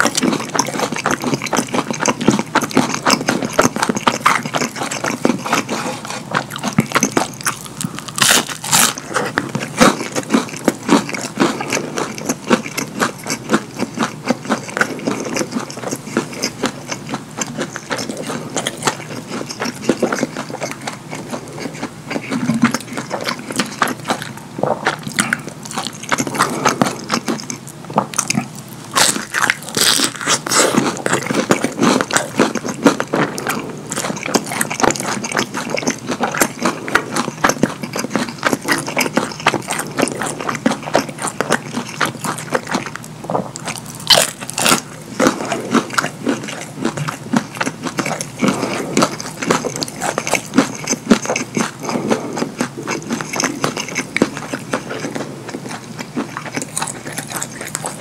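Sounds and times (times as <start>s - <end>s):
chewing and lip smacking: 0.0s - 58.0s.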